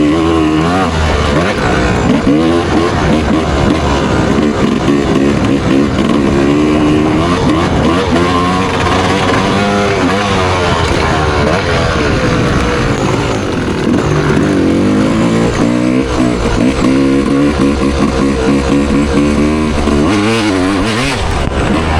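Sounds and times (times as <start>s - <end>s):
motorbike engine revving: 0.0s - 21.9s.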